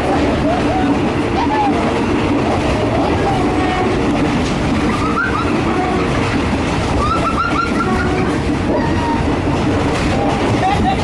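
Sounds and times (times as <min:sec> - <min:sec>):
train rumbling and rattling: 0:00.0 - 0:11.0.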